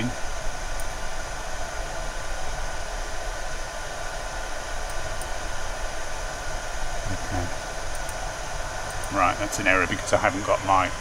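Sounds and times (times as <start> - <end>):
fan rushing hiss: 0.0 - 11.0.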